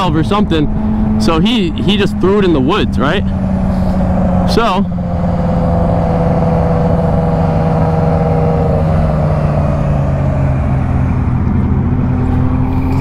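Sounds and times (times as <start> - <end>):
road rumble: 0.0 - 13.0
vehicle engine running: 0.0 - 13.0.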